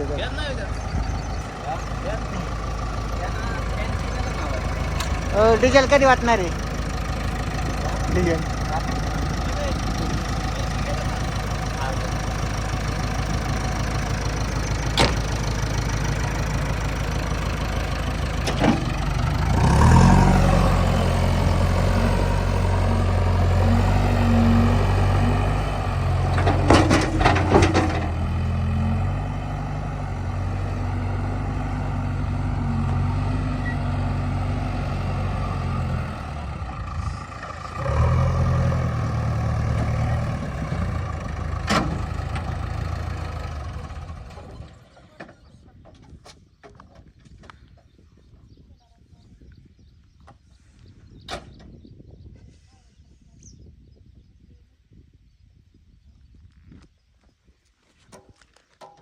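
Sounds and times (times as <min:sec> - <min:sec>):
diesel engine idling and revving: 0:00.0 - 0:49.1.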